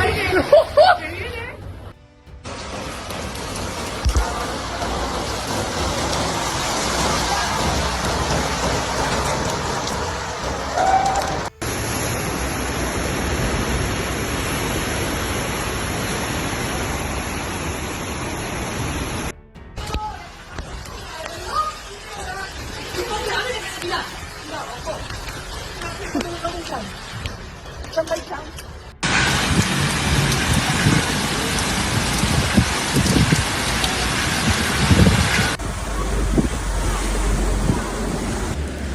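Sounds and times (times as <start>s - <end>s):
low rumbles: 0.0s - 38.9s
torrential rain: 0.0s - 38.9s
rushing flood water: 2.4s - 38.9s.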